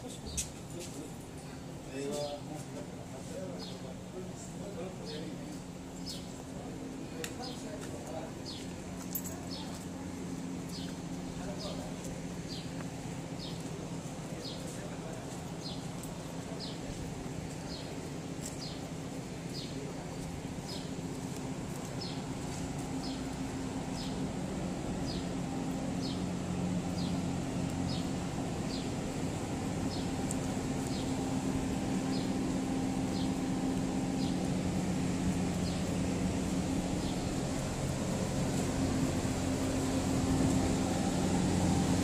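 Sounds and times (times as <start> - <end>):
low mechanical hum: 0.0 - 42.0.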